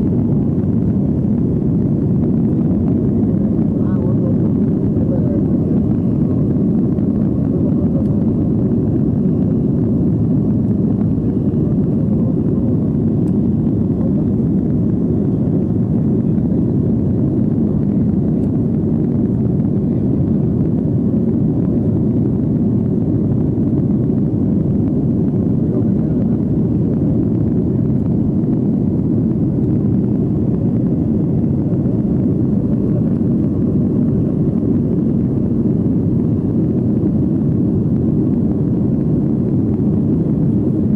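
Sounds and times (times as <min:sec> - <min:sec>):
airplane engines rumbling: 0:00.0 - 0:40.9.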